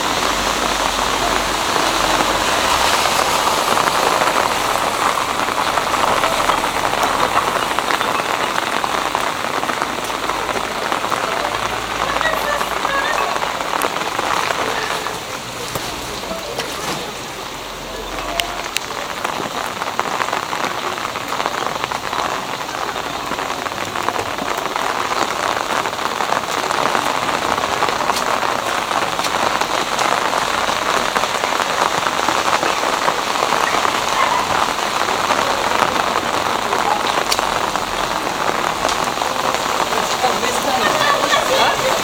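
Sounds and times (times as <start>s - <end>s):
rain pattering on street: 0.0s - 42.0s.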